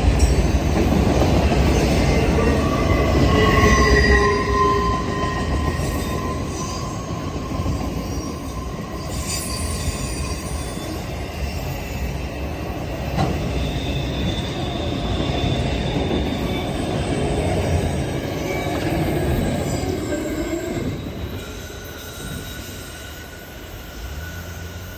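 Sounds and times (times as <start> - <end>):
train wheels rumbling on rails: 0.0 - 24.9
faint wheel squeals: 1.9 - 12.1, 13.2 - 24.9.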